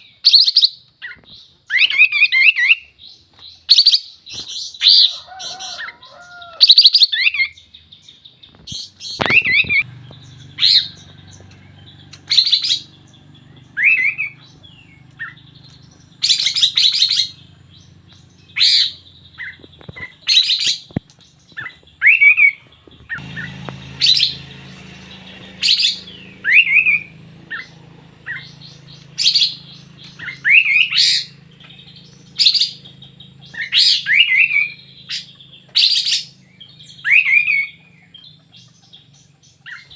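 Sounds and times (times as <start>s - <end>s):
songbird chirping and whistling: 0.0s - 39.9s.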